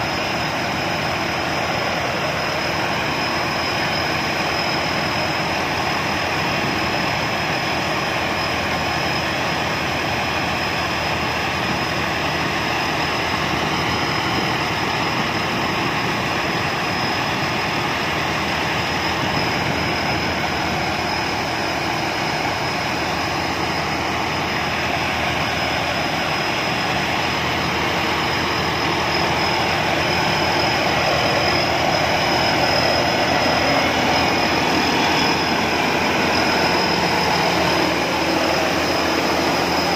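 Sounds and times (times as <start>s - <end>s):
diesel engine running: 0.0s - 39.9s
steady high whine: 0.0s - 39.9s.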